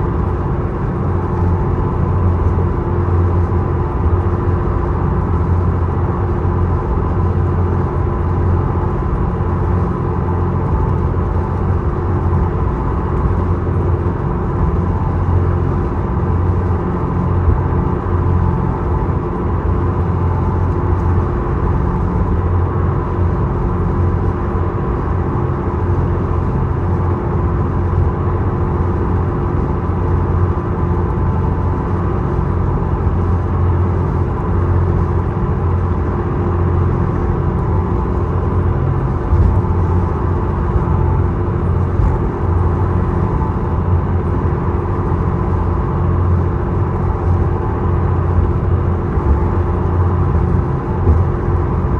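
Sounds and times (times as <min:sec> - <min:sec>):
ferry engine droning: 0:00.0 - 0:51.9.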